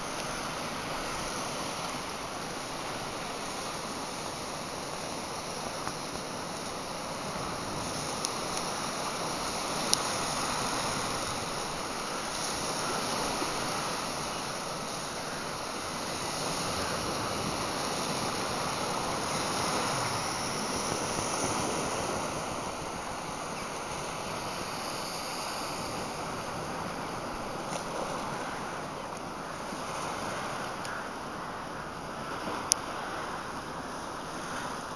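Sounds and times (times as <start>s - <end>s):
sea surf washing against rocks: 0.0s - 34.9s.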